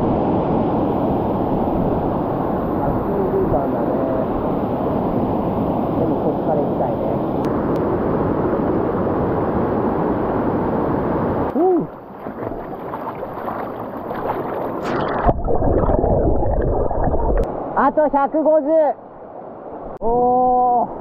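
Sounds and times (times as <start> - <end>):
wind rumbling on microphone: 0.0 - 17.6
rushing stream water: 0.0 - 20.0.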